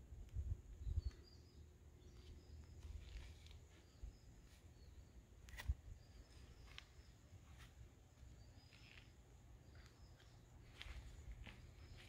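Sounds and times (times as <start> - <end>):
high chirps of birds or insects: 0.0 - 12.0.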